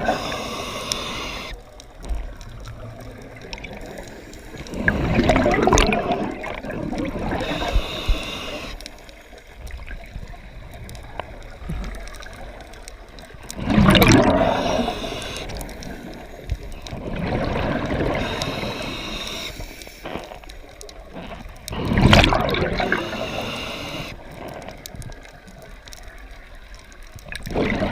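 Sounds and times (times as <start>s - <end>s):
water gurgling and sloshing: 0.0s - 27.9s.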